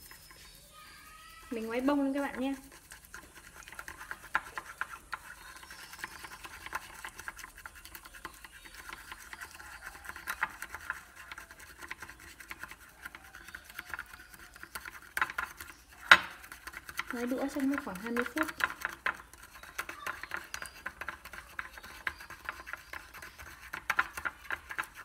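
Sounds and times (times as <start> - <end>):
chopsticks whisking in ceramic bowl: 0.0 - 25.0.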